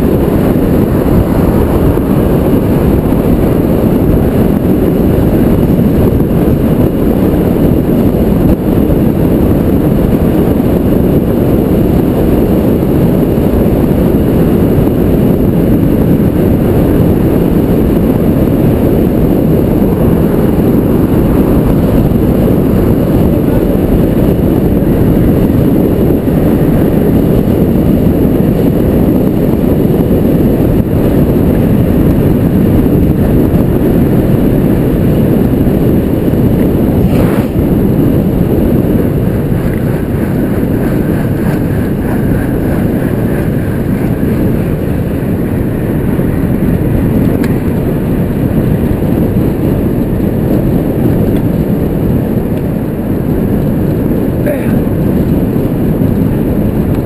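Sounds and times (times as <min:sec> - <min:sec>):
wind buffeting helmet camera: 0:00.0 - 0:57.0.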